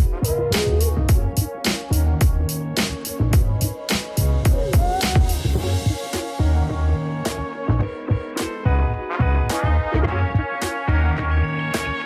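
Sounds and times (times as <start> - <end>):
music with drums and bass: 0.0 - 12.0.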